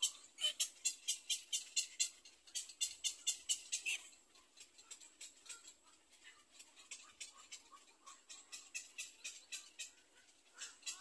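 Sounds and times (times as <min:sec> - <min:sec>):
heron nestling ticking calls: 0:00.0 - 0:05.8, 0:06.8 - 0:11.0.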